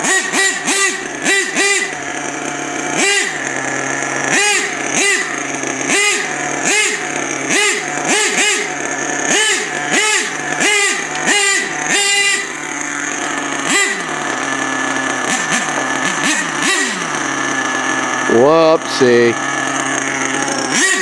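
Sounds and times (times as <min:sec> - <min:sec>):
small nitro engine revving: 0:00.0 - 0:21.0.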